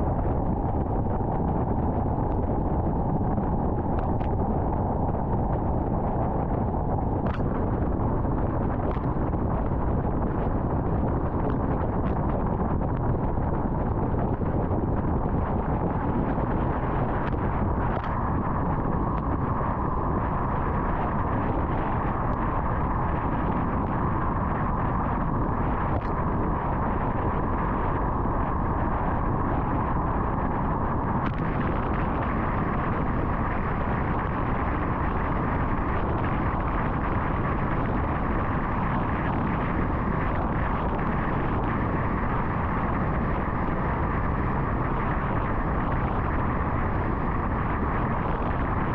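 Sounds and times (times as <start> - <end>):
tyres and wind road noise: 0.0 - 48.9.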